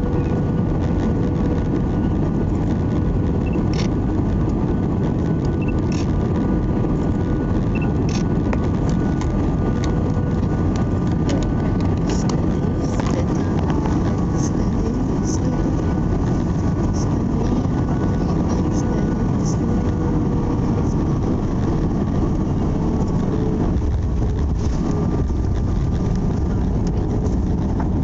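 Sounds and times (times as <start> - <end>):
faint steady whines: 0.0 - 28.0
jet airliner cabin roar: 0.0 - 28.0.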